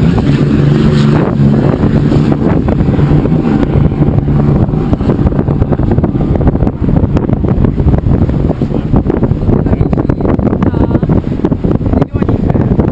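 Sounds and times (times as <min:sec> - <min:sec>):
powerboat engines droning: 0:00.0 - 0:12.9
wind buffeting microphone: 0:00.0 - 0:12.9.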